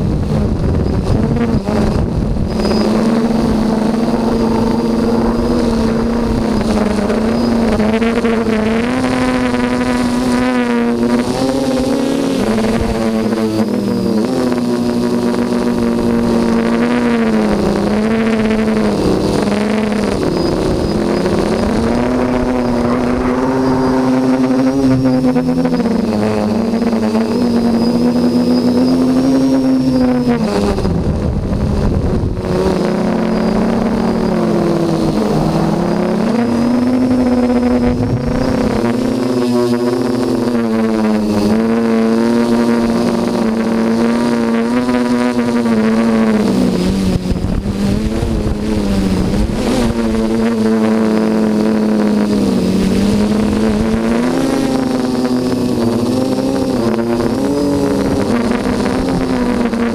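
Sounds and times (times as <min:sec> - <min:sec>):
drone propellers buzzing: 0:00.0 - 0:59.9.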